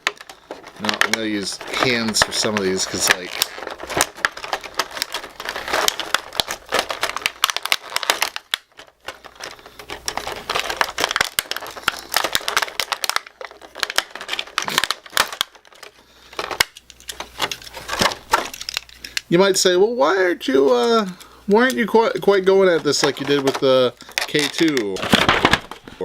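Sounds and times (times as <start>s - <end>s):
plastic packaging crinkling: 0.0s - 26.0s.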